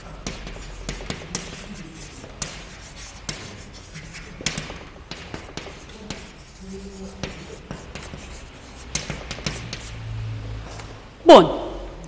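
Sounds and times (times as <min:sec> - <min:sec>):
chalk tapping on blackboard: 0:00.0 - 0:10.0
chalk scratching on blackboard: 0:00.0 - 0:10.1.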